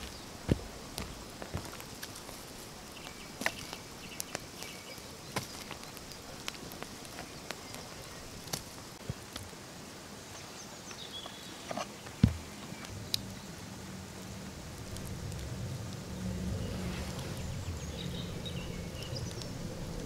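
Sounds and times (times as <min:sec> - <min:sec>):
campfire crackling and popping: 0:00.0 - 0:09.8, 0:11.8 - 0:20.0
steady outdoor hiss: 0:00.0 - 0:20.0.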